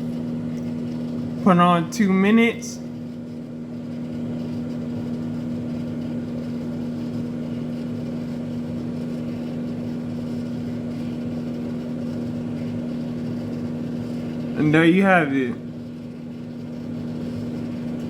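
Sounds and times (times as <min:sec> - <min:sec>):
fan whirring: 0:00.0 - 0:18.0
microwave oven humming: 0:00.0 - 0:18.0.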